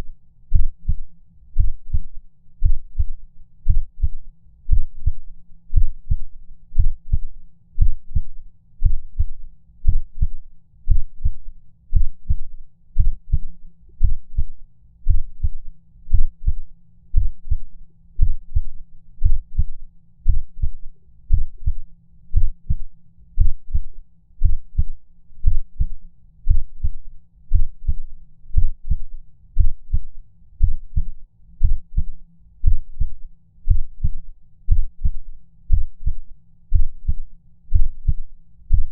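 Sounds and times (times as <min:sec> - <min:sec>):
heartbeat thumps: 0:00.5 - 0:01.0, 0:01.6 - 0:16.6, 0:17.2 - 0:21.8, 0:22.4 - 0:22.8, 0:23.4 - 0:28.0, 0:28.6 - 0:38.9.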